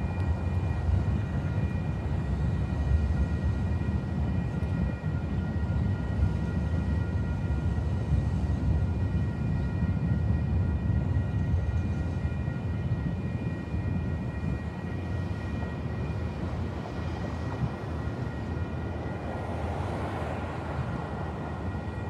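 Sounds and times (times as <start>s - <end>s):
jet aircraft overhead: 0.0s - 22.0s
light-rail train rolling past: 0.0s - 22.0s.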